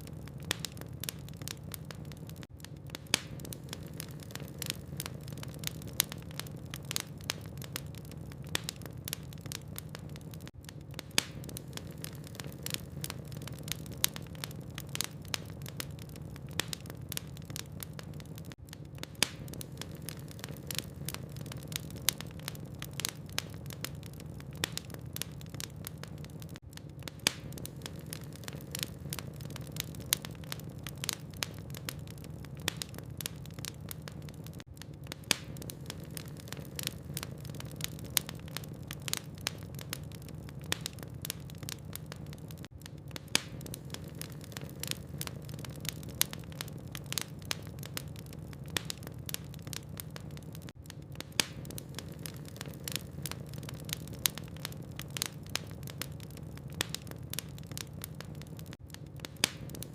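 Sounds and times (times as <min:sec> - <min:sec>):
logs crackling and snapping: 0:00.0 - 0:59.9.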